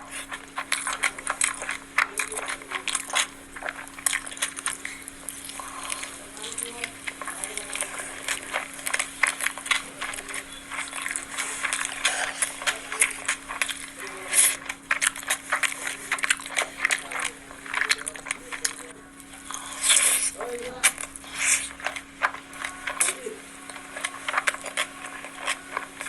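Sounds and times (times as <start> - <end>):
crunching or slurping: 0.0 - 26.0
faint steady hum: 0.0 - 26.0
wet chewing and smacking: 0.0 - 26.0.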